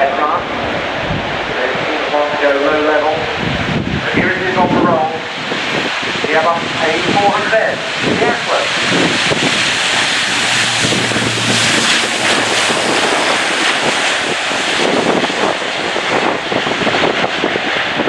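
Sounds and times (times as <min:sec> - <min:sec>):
turboprop aircraft roar: 0:00.0 - 0:18.0.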